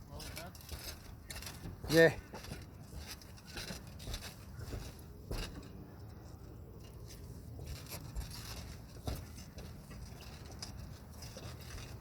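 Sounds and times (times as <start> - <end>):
roof tiles knocking and scraping: 0.2 - 5.8, 6.9 - 12.0.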